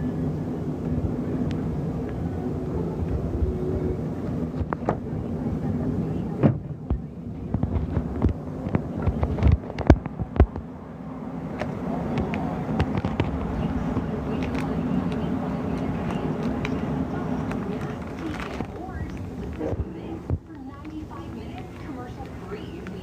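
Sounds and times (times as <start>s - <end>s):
faint background voices: 0.0s - 23.0s
room hum: 0.0s - 23.0s.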